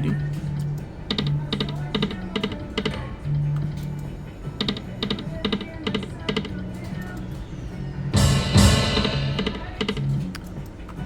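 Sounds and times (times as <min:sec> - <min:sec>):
gaming machine music: 0:00.0 - 0:11.0.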